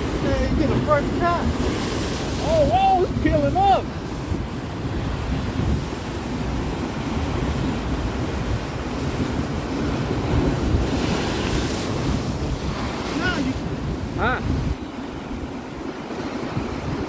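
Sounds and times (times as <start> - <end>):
big wave crashing: 0.0 - 17.0
surf breaking over rocks: 0.0 - 17.0
wind buffeting microphone: 0.0 - 17.0.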